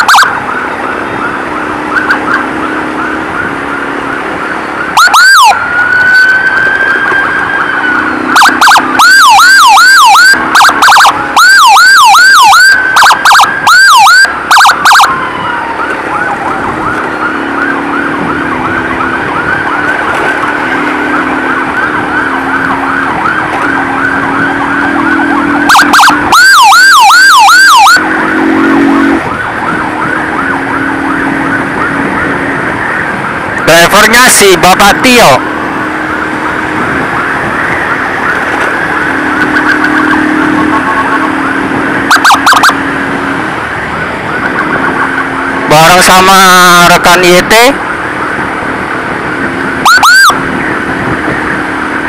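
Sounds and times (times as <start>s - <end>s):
fast-warbling ambulance siren: 0.0s - 52.0s
loud siren falling sweeps: 0.0s - 52.0s.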